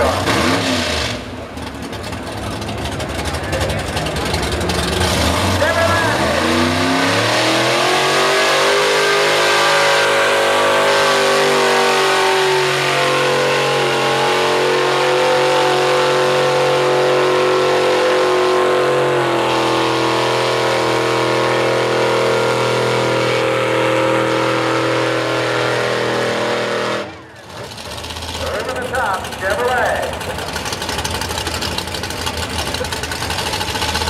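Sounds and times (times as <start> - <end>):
truck engine revving high: 0.0 - 34.0.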